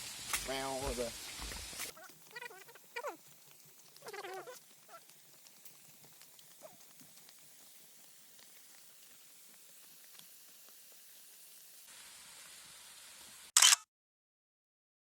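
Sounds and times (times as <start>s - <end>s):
faint steady hiss: 0.0s - 13.5s.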